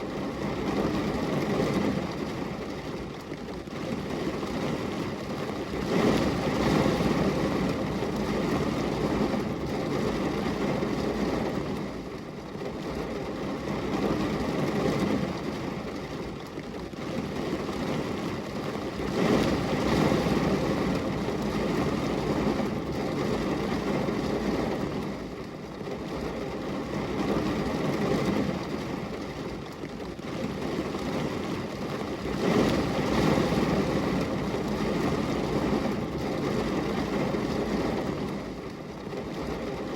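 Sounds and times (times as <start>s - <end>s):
rain on a glass window: 0.0s - 39.9s.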